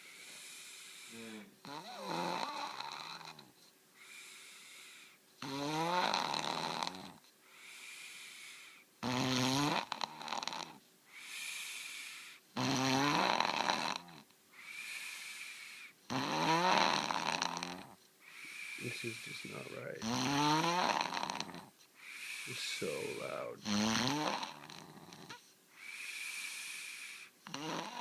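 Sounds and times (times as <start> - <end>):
quiet breathing: 0.0 - 5.3, 6.9 - 9.0, 10.6 - 12.6, 14.0 - 16.1, 16.8 - 28.0
child snoring: 0.0 - 28.0.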